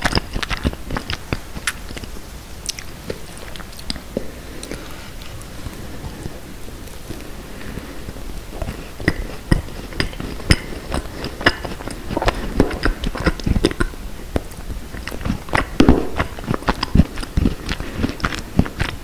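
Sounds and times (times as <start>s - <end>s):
chewing crunchy food: 0.0s - 19.0s.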